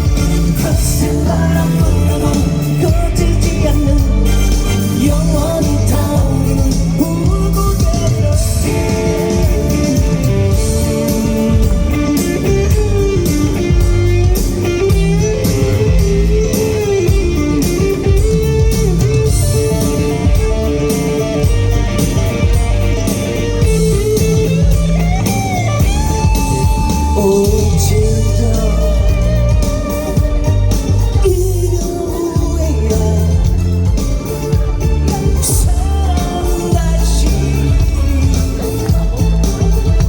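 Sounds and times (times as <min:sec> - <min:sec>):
bass: 0:00.0 - 0:40.0
drums: 0:00.0 - 0:40.0
guitar melody: 0:00.0 - 0:40.0.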